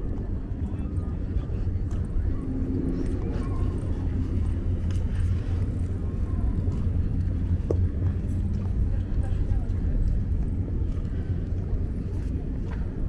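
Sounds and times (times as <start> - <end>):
low city rumble: 0.0 - 13.0
faint footsteps on paving: 1.3 - 13.0.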